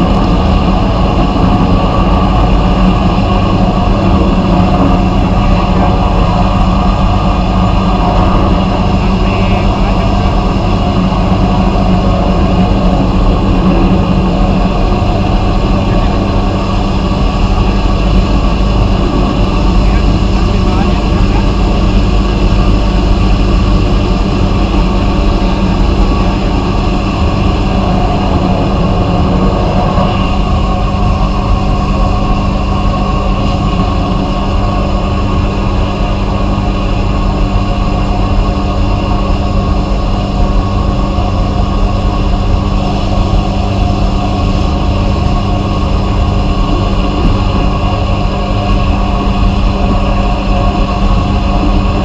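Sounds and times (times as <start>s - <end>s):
loud continuous blast hiss: 0.0s - 52.0s
low machine hum: 0.0s - 52.0s.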